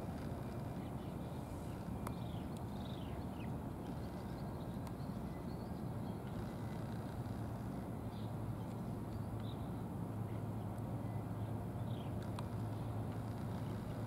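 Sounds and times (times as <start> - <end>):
faint hum: 0.0 - 14.0
low outdoor rumble: 0.0 - 14.0.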